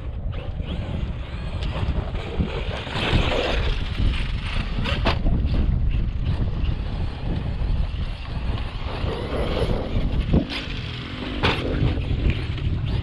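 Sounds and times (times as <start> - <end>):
rc truck driving over dirt: 0.0 - 13.0
wind buffeting microphone: 0.0 - 13.0.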